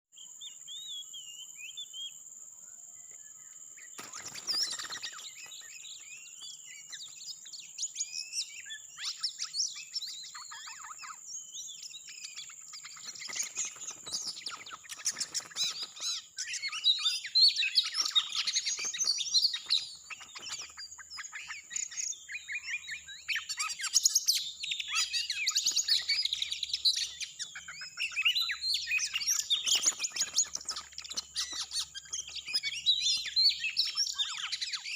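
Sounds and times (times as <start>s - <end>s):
bird chirps and whistles: 3.9s - 34.9s.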